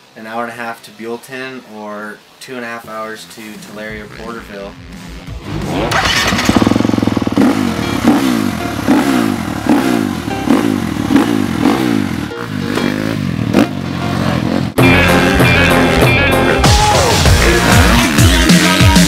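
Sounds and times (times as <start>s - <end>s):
dirt bike engine revving: 3.6s - 19.0s.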